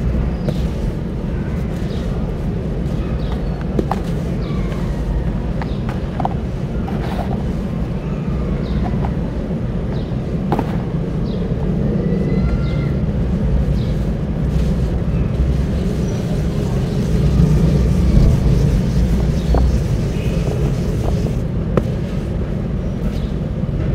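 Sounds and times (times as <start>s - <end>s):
low outdoor rumble: 0.0s - 23.9s.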